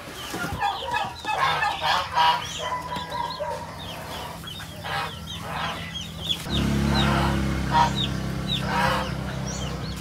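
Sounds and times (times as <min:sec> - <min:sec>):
chicken clucking: 0:00.0 - 0:10.0
chicks peeping: 0:00.0 - 0:10.0.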